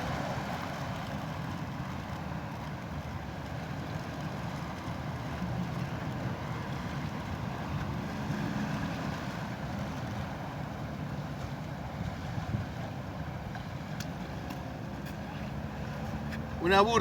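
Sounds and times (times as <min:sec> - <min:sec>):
wind and water rumble: 0:00.0 - 0:17.0.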